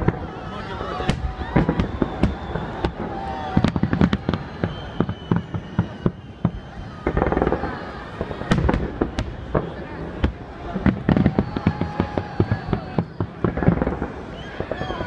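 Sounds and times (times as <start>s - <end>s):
fireworks bangs: 0.0s - 15.0s
fireworks rapid crackling: 0.0s - 15.0s.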